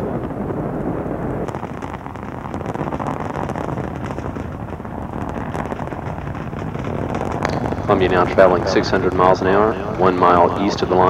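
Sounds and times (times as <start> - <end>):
crackling rocket roar: 0.0 - 11.0.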